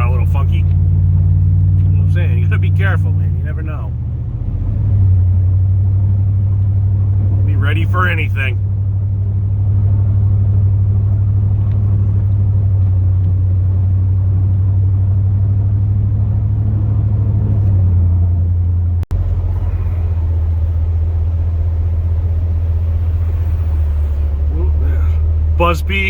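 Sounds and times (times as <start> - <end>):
truck engine droning: 0.0 - 26.0.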